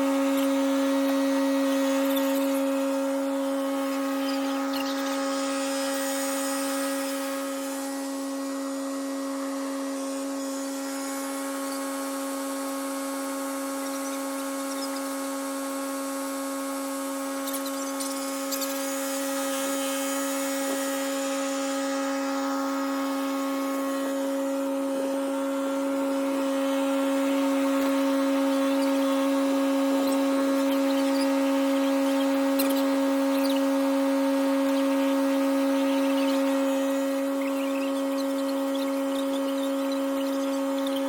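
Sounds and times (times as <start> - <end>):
motor whining: 0.0 - 41.0.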